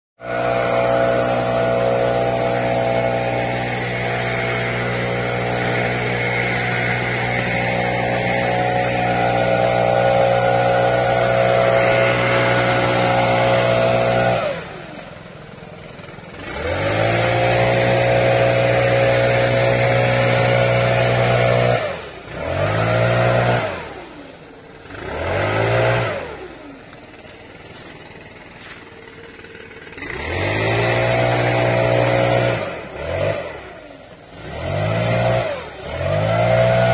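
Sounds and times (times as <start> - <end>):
small petrol engine revving: 0.2 - 36.9.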